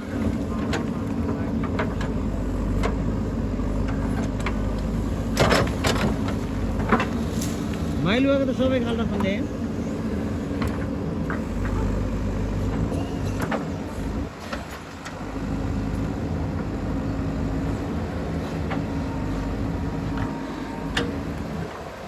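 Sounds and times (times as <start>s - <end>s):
backhoe diesel engine running: 0.0s - 22.0s.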